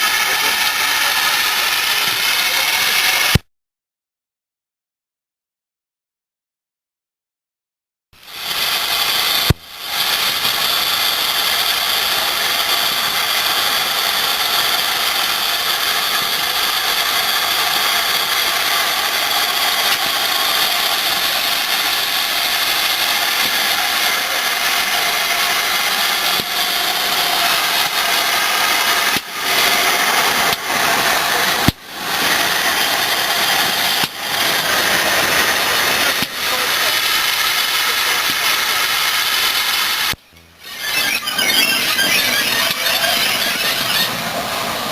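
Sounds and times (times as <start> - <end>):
steam locomotive hissing steam: 0.0 - 3.4, 8.2 - 44.9.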